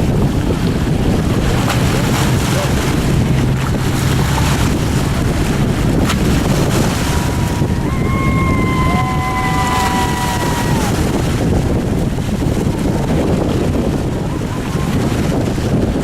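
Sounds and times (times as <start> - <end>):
boat engines rumbling: 0.0 - 16.0
wind noise on microphone: 0.0 - 16.0.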